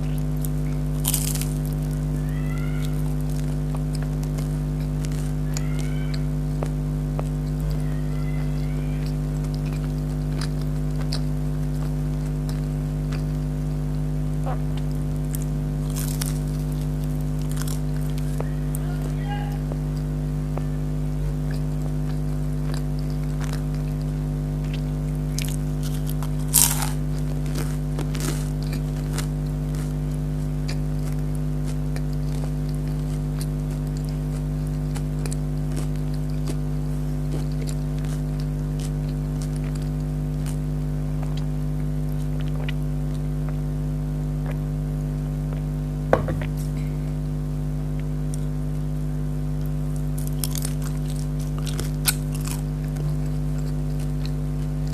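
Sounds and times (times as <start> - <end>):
crunching of fried food being eaten: 0.0 - 54.9
steady low hum: 0.0 - 54.9.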